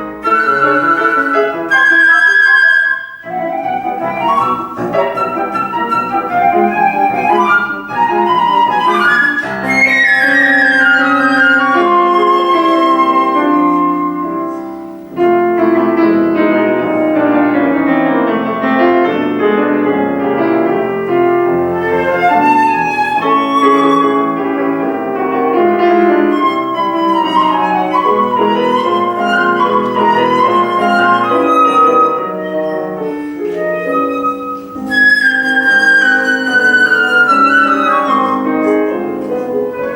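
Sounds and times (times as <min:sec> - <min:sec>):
flute melody: 0:00.0 - 0:39.9
piano accompaniment: 0:00.0 - 0:39.9.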